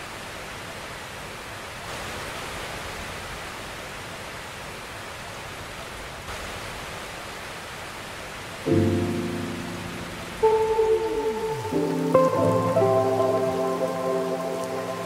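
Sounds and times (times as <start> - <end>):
water rushing: 1.8 - 15.0.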